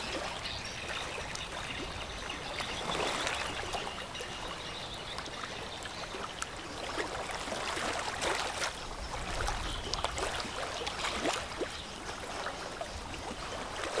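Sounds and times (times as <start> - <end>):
water lapping and splashing: 0.0 - 14.0.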